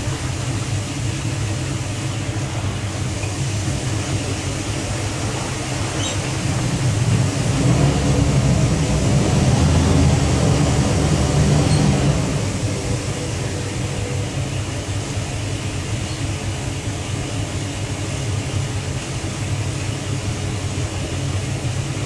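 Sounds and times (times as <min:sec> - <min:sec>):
boat engines rumbling: 0:00.0 - 0:22.0.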